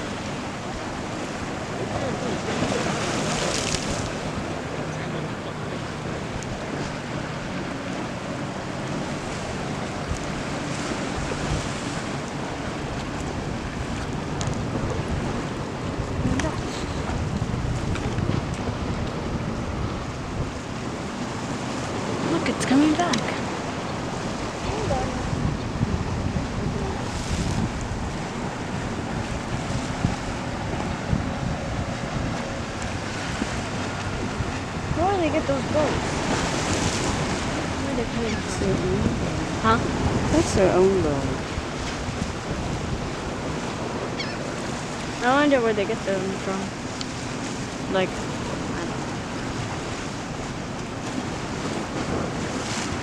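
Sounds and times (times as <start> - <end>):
faint boat motor drone: 0.0 - 53.0
surf washing on beach: 0.0 - 53.0
wind buffeting microphone: 0.0 - 53.0.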